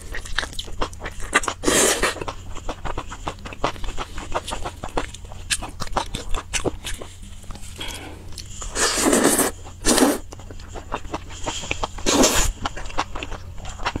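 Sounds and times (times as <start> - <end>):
wet chewing and mouth smacks: 0.0 - 8.8, 9.4 - 14.0.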